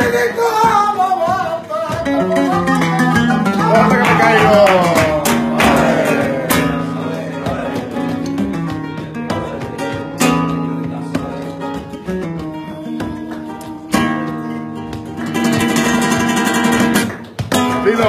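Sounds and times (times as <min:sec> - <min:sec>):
flamenco guitar playing: 0:00.0 - 0:18.0.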